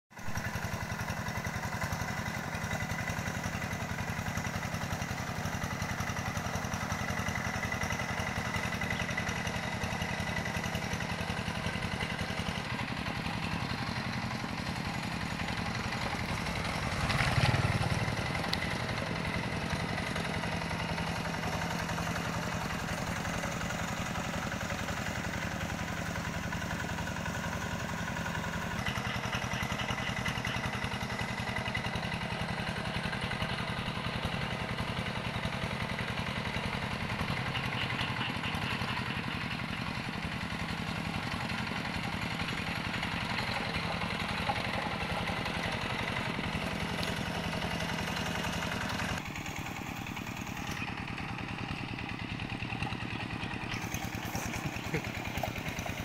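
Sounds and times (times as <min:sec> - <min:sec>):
hand tractor diesel engine: 0:00.1 - 0:56.0.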